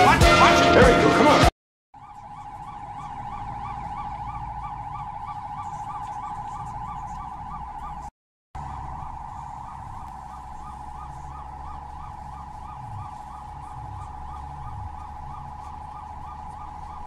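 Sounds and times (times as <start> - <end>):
ambulance siren wailing: 0.0 - 17.0
engine and road rumble: 2.0 - 17.0.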